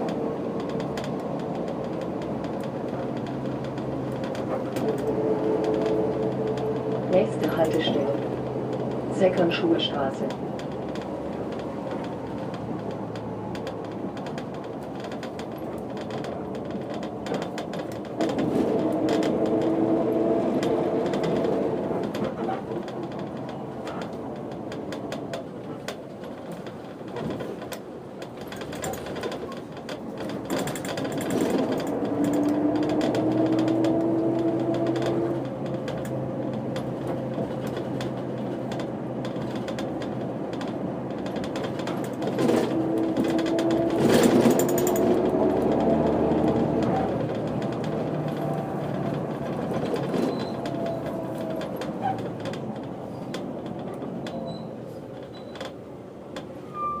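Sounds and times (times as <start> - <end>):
bus diesel engine rattling: 0.0 - 57.0.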